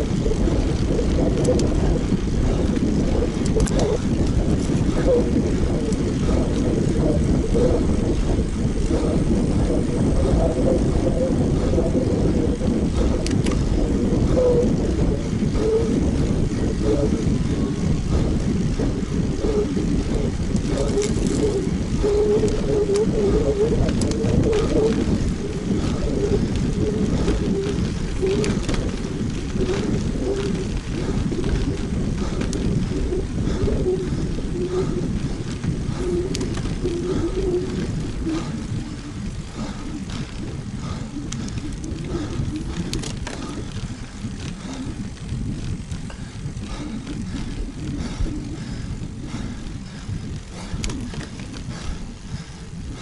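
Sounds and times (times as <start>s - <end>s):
tyres rolling on pavement: 0.0s - 53.0s
wind on microphone: 0.0s - 53.0s.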